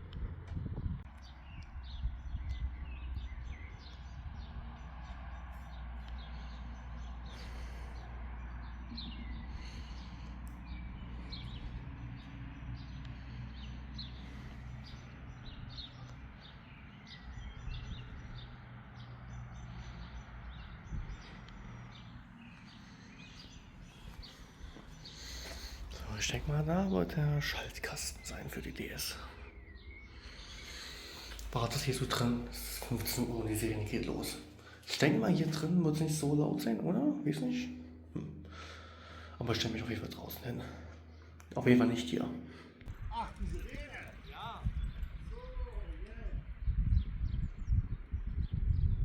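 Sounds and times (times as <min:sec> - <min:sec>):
steady low rumble: 0:00.0 - 0:37.0, 0:37.8 - 0:49.0
small birds chirping: 0:00.0 - 0:49.0.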